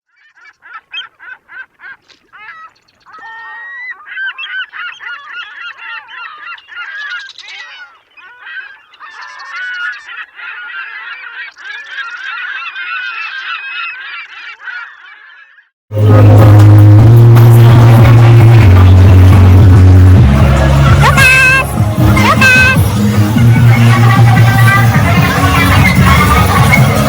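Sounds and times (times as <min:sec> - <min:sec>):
flock of birds calling: 0:00.1 - 0:15.7, 0:20.5 - 0:27.0.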